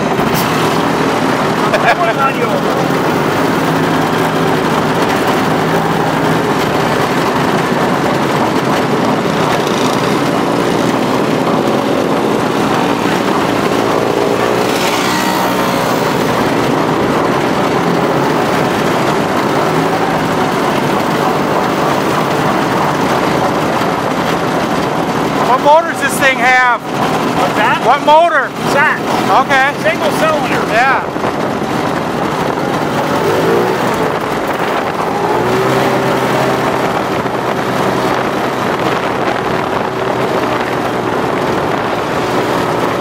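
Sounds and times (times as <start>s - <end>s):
snowmobile engine running: 0.0s - 43.0s.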